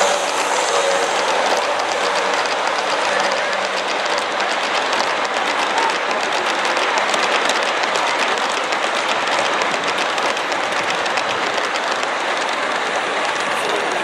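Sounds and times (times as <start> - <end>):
model train wheels rattling: 0.0 - 14.0.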